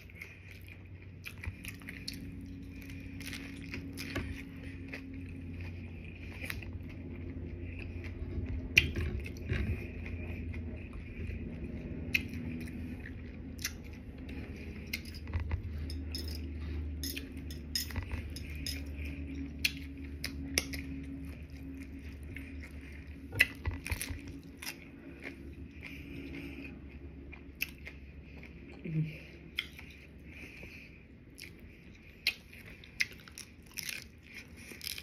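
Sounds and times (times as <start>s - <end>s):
crunchy taco chewing: 0.0s - 28.8s, 29.4s - 35.0s
steady low hum: 0.0s - 35.0s.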